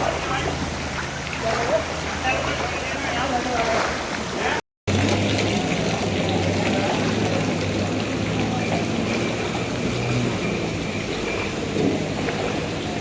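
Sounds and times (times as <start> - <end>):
floodwater running in street: 0.0 - 13.0
rain falling: 0.0 - 13.0.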